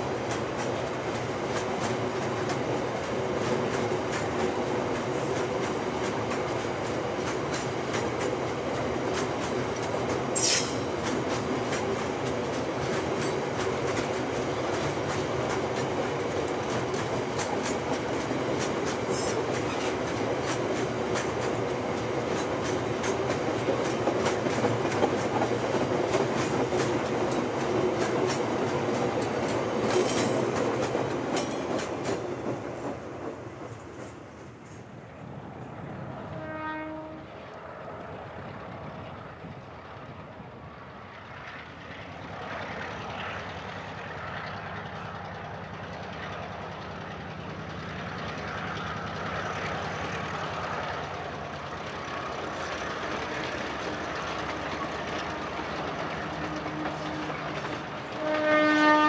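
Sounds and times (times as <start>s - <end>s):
wheels clicking over rail joints: 0.0s - 34.9s, 42.3s - 58.3s.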